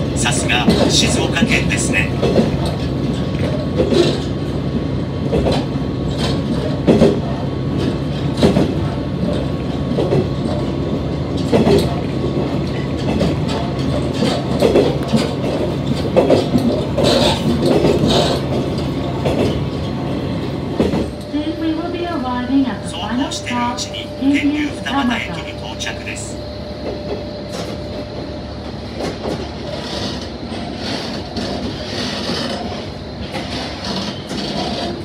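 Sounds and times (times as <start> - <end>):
wheels clacking over rail joints: 0.0 - 21.3, 24.6 - 35.0
railcar engine and wheels rumbling: 0.0 - 35.0.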